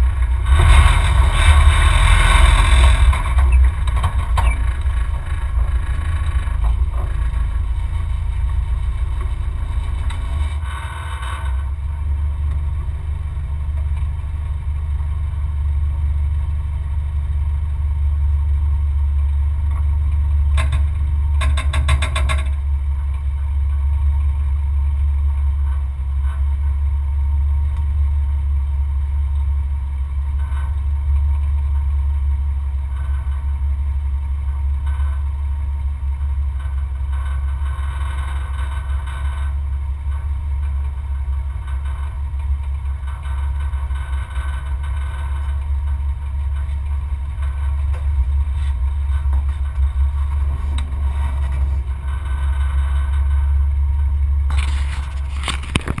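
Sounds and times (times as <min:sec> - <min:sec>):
light vehicle clatters: 0:00.0 - 0:15.6, 0:19.1 - 0:56.0
off-road vehicle engine idling: 0:00.0 - 0:56.0.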